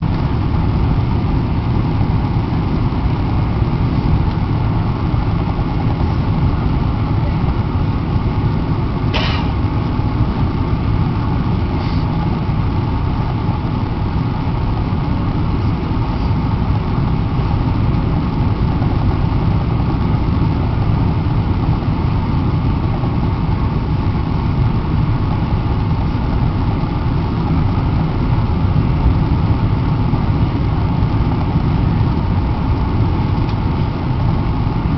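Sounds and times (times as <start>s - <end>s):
airliner cabin rumble: 0.0s - 34.9s.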